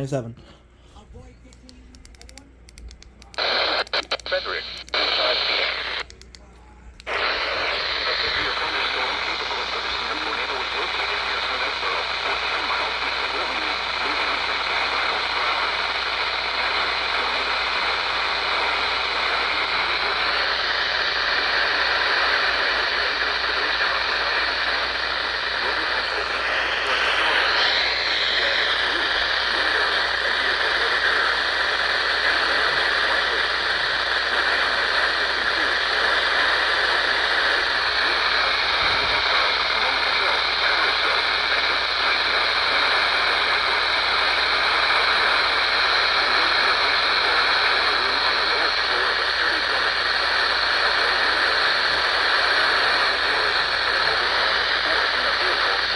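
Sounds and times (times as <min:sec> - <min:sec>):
radio static hiss: 0:00.0 - 0:00.4, 0:03.2 - 0:06.3, 0:07.0 - 0:55.9.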